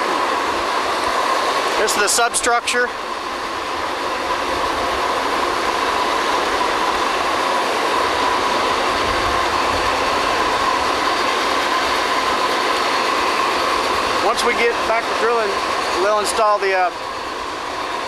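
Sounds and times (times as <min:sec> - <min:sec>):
machinery rushing hum: 0:00.0 - 0:18.0
steady machine whine: 0:00.0 - 0:18.0.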